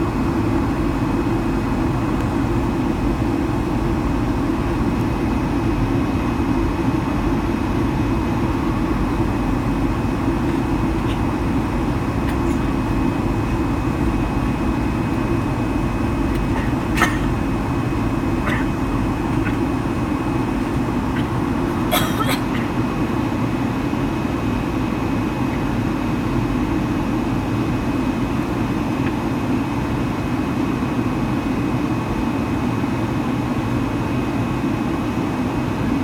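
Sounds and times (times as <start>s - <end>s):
aircraft cabin engine rumble: 0.0s - 36.0s.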